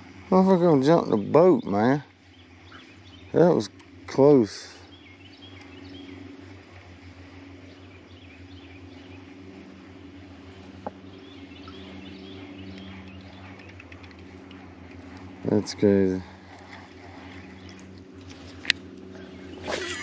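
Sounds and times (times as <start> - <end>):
steady low hum: 0.0 - 20.0
small birds chirping: 0.2 - 20.0.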